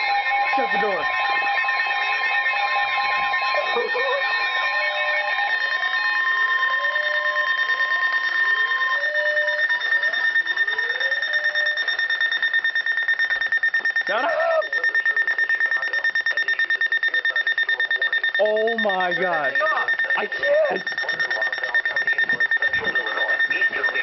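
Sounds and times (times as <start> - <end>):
fast beeping: 0.0 - 24.0
steady alarm tones: 0.0 - 24.0.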